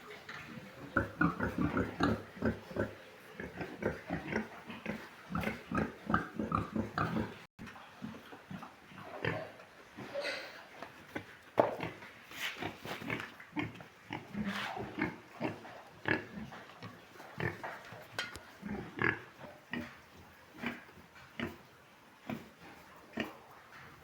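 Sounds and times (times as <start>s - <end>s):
pigs grunting: 0.0s - 12.0s, 12.6s - 21.7s, 22.3s - 24.0s.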